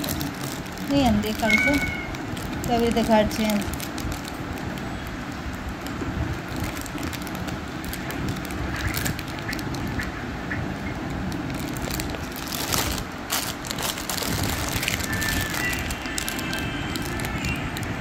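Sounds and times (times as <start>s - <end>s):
plastic bag crinkling: 0.0s - 10.1s, 10.7s - 18.0s.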